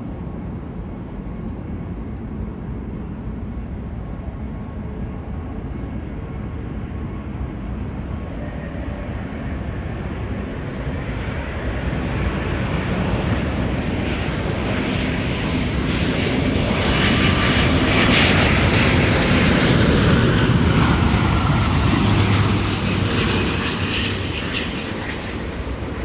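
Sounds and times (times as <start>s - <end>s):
jet aircraft landing: 0.0s - 26.0s.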